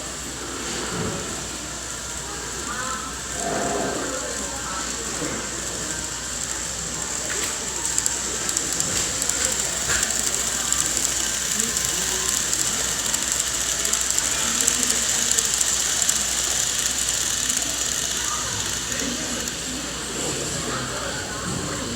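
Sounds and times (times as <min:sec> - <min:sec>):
constant high hiss: 0:00.0 - 0:21.9
model train clicking on track: 0:00.0 - 0:21.9.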